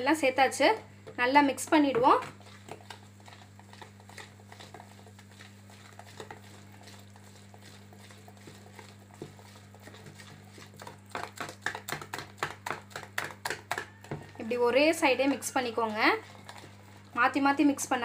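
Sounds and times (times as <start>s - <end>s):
whisk beating batter in bowl: 0.0s - 18.0s.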